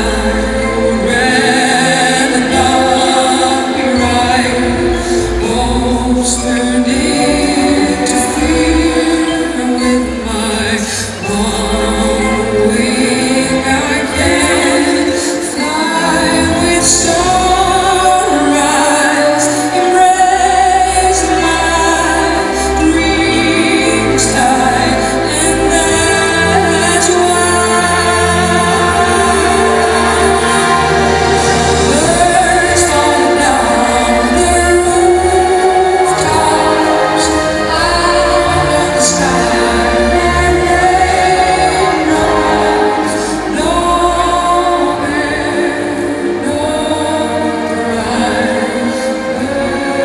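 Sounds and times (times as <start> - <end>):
orchestral accompaniment: 0.0 - 50.0.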